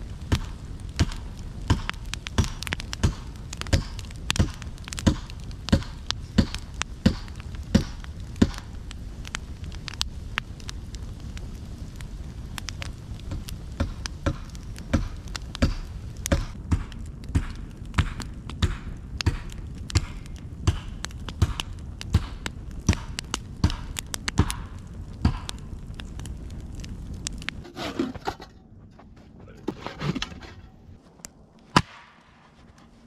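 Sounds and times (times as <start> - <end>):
campfire crackling and popping: 0.0 - 33.0
low fire rush: 0.0 - 33.0.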